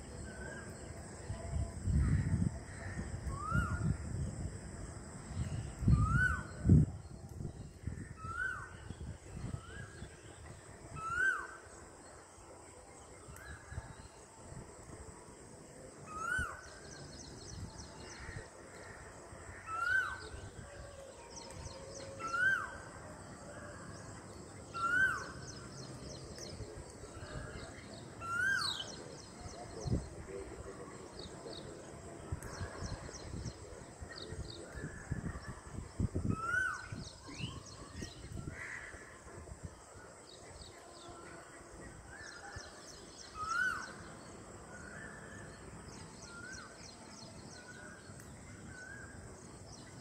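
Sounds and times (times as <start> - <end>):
faint high twittering: 0.0 - 50.0.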